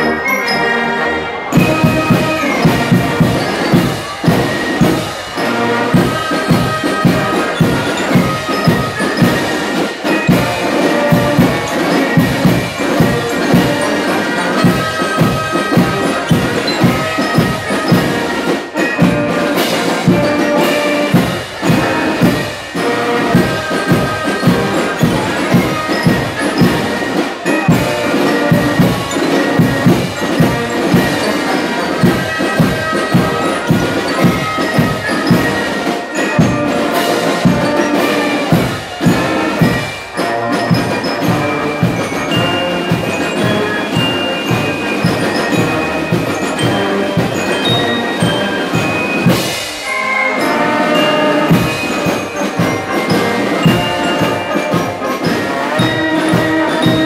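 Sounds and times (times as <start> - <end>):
fifes playing melody: 0.0 - 57.0
snare drum beat: 1.3 - 57.0.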